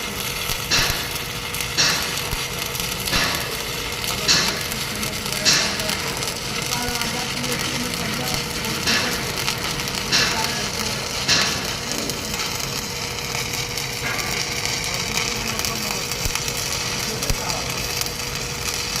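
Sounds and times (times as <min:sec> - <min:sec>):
sharp welding crack: 0:00.0 - 0:19.0
welding arc crackling: 0:00.0 - 0:19.0.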